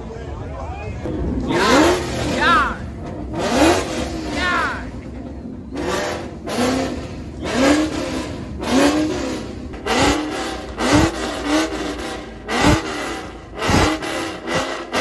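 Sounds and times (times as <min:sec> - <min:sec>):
engine revving in short blips: 0:01.1 - 0:15.0.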